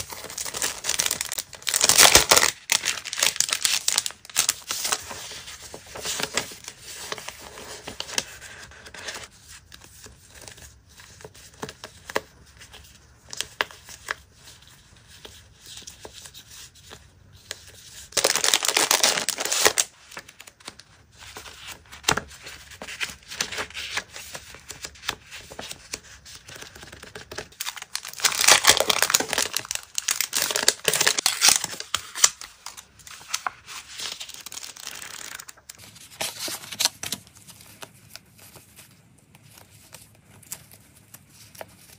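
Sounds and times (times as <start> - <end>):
paper rustling and crinkling: 0.0 - 41.9.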